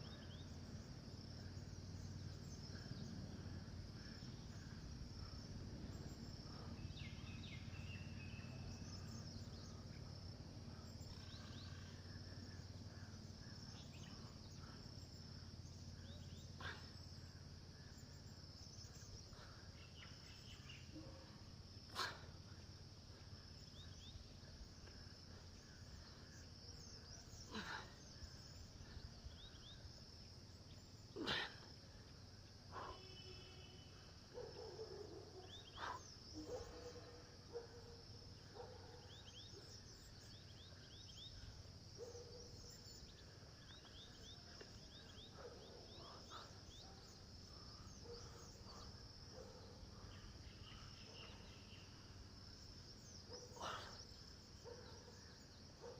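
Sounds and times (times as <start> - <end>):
insect chorus trilling: 0.0 - 55.9.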